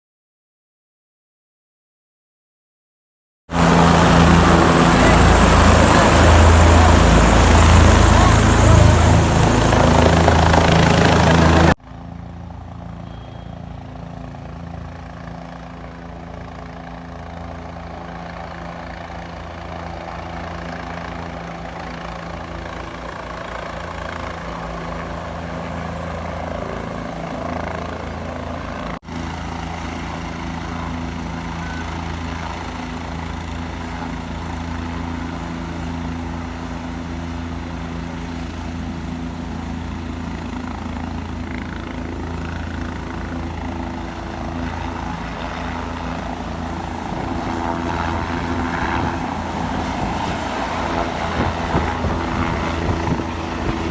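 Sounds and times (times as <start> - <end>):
helicopter rotor and engine drone: 3.5 - 53.9.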